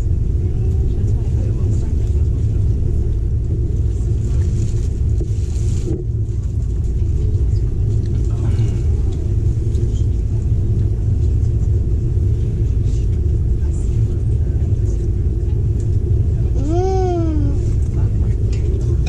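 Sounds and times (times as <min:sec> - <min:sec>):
train rumble inside coach: 0:00.0 - 0:19.0.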